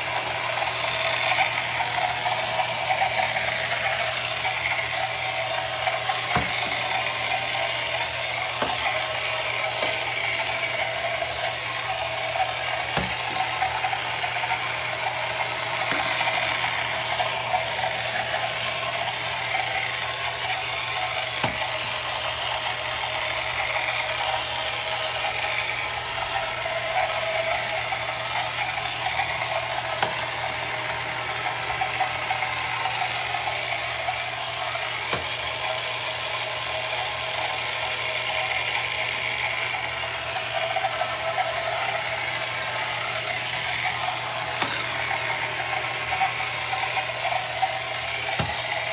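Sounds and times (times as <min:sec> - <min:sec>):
toy electric motor running: 0:00.0 - 0:48.9.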